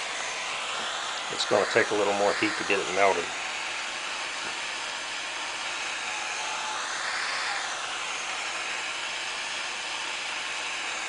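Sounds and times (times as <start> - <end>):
propane torch flame hissing: 0.0 - 11.0.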